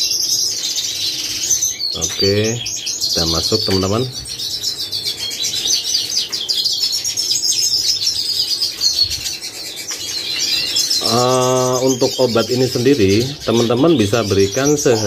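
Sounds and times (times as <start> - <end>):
caged birds chirping and singing: 0.0 - 15.0.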